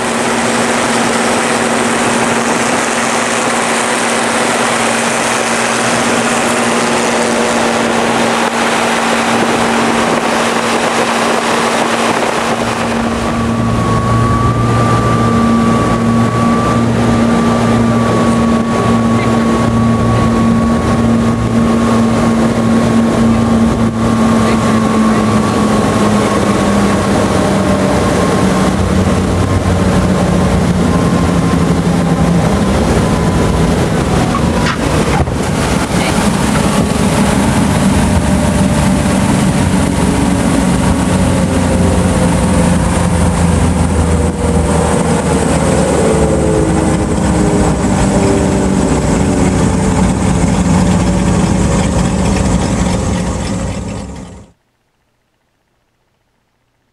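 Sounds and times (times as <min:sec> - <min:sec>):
wind rush: 0:00.0 - 0:54.4
propeller aircraft engine droning: 0:00.0 - 0:54.7.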